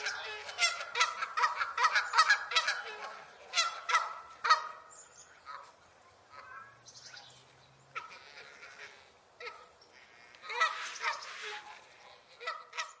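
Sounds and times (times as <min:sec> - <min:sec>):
geese honking: 0:00.0 - 0:06.7, 0:07.9 - 0:13.0.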